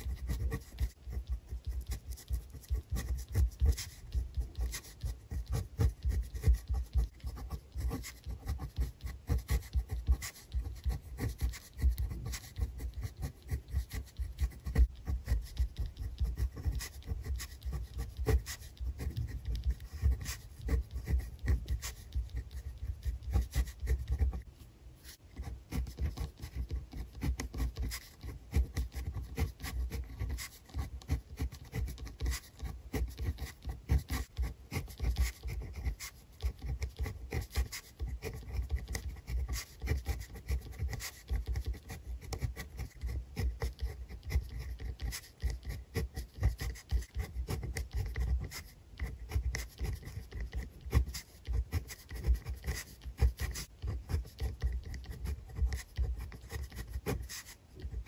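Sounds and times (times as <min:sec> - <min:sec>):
pen scratching on paper: 0:00.0 - 0:58.0.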